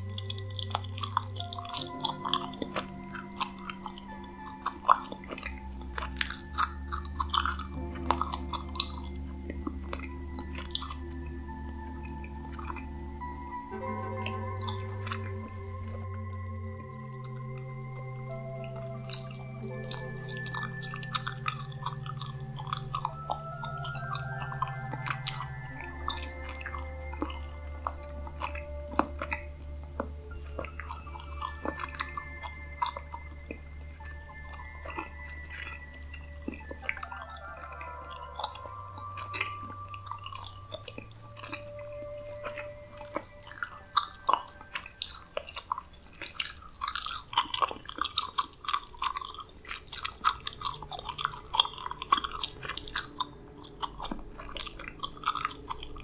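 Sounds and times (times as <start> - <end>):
gum chewing mouth clicks: 0.0 - 13.4, 14.2 - 56.0
ambient music drone: 0.0 - 56.0.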